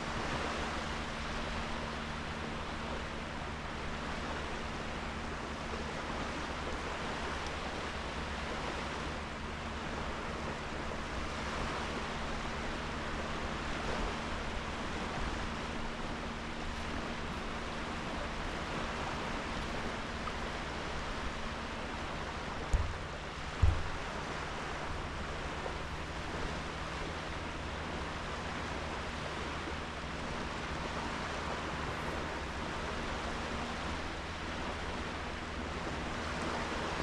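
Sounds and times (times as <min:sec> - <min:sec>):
waves washing onto sand: 0:00.0 - 0:37.0.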